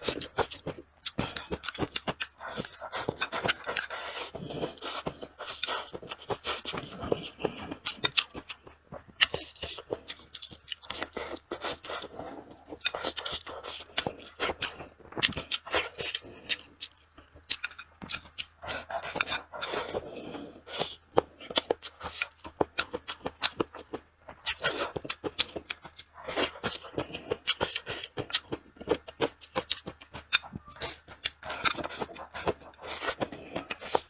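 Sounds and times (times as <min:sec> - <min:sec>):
wet chewing and lip-smacking: 0:00.0 - 0:34.0.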